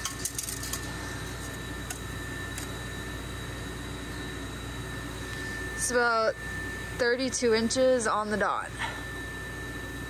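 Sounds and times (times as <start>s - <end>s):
high-pitched whine: 0.0s - 10.0s
steady machine hum: 0.0s - 10.0s.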